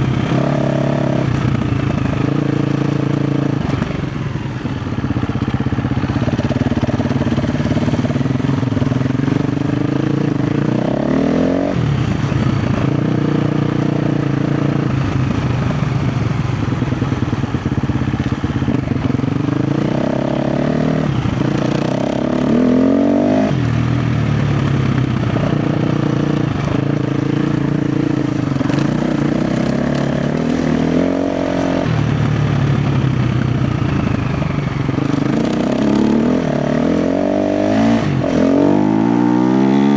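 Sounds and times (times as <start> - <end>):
dirt bike engine revving: 0.0 - 4.2, 6.1 - 39.9.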